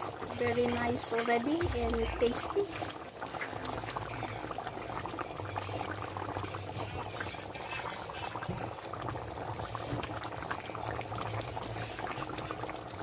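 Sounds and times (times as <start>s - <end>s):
curry bubbling and popping: 0.0s - 13.0s.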